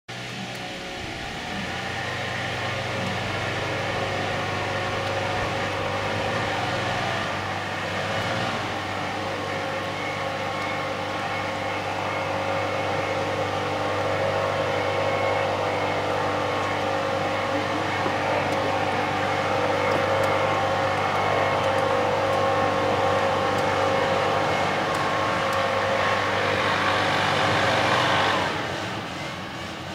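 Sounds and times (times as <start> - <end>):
mechanical hum with held tones: 0.1 - 29.9.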